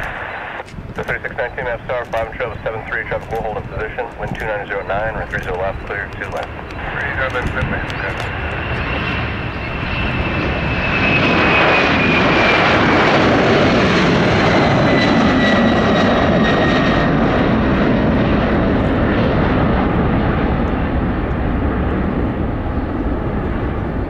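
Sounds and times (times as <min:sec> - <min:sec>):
jet engine noise: 0:00.0 - 0:24.0.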